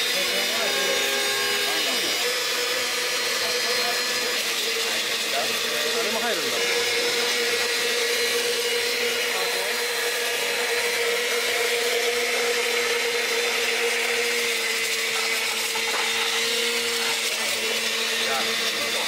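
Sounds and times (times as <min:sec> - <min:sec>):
electric blender running: 0:00.0 - 0:19.0.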